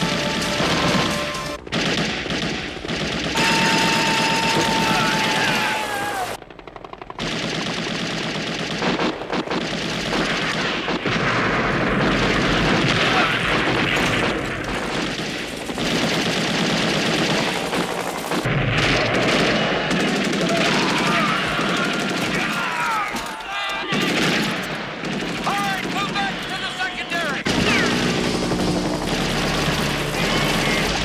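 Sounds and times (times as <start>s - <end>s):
dense battle gunfire: 0.0s - 31.0s
machine guns firing bursts: 0.0s - 31.0s.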